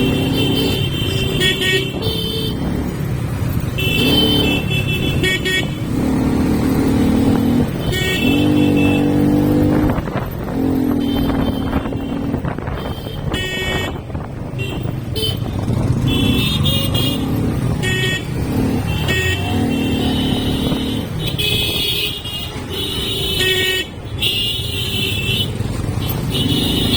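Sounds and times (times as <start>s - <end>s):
vehicle horns honking: 0.0s - 2.9s, 3.6s - 10.2s, 10.8s - 26.9s
motorcycle engine and road rumble: 0.0s - 26.9s.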